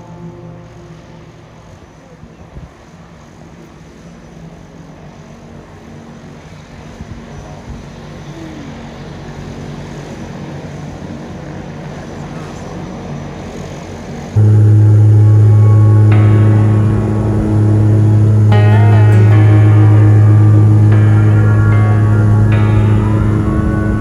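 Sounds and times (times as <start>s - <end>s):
propeller plane taking off: 0.0s - 24.0s.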